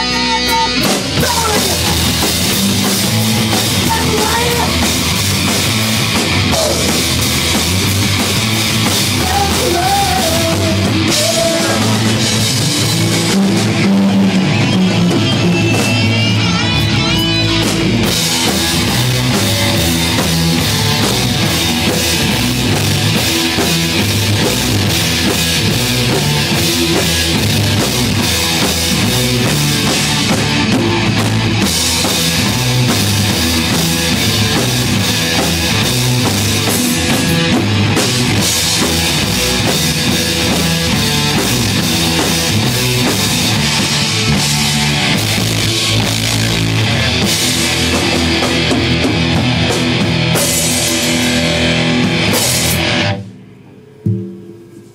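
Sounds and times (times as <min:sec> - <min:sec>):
electric guitars: 0:00.0 - 0:53.8
bass guitar: 0:00.0 - 0:54.9
drum kit with cymbals: 0:00.0 - 0:54.9.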